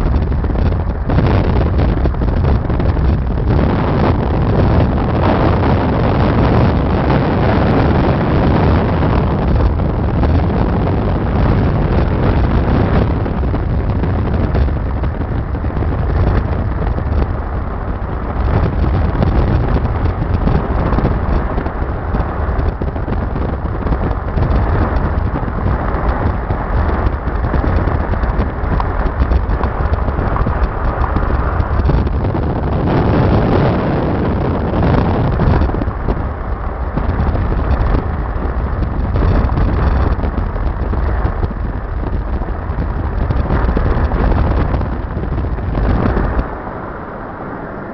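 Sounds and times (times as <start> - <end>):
car road noise: 0.0 - 47.9
wind buffeting microphone: 0.0 - 47.9.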